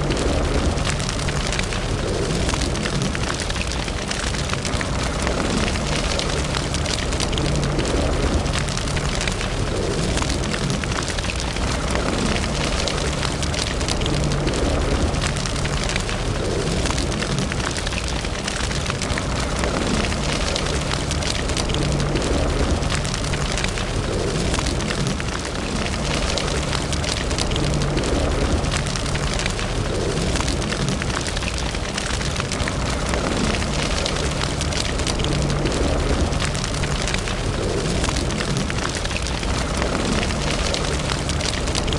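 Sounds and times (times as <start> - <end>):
fire crackling in a fireplace: 0.0 - 41.9.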